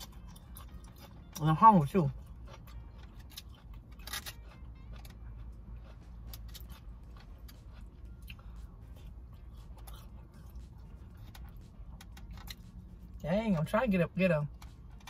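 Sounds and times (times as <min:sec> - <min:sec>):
soft chewing: 0:00.0 - 0:13.7.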